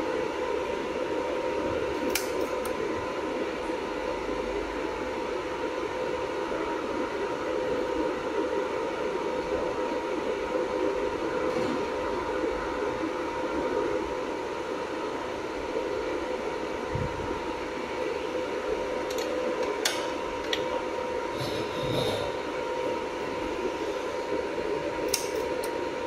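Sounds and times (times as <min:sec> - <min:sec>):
machine fan-like hum with tone: 0:00.0 - 0:26.0.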